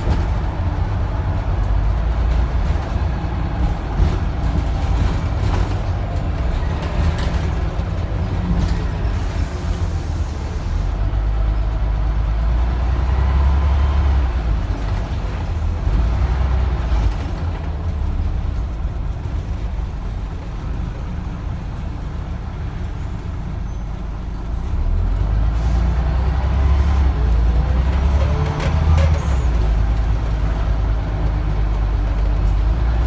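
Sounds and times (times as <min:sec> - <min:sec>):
bus diesel engine: 0:00.0 - 0:33.0.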